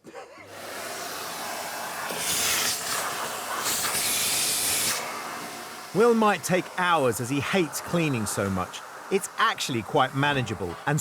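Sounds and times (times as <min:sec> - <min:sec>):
vacuum cleaner rushing hiss: 0:00.5 - 0:11.0.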